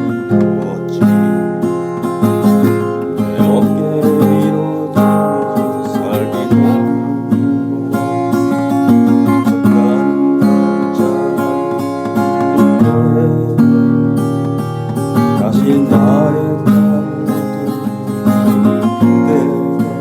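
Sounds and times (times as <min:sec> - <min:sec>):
acoustic guitar strummed and picked: 0:00.0 - 0:20.0.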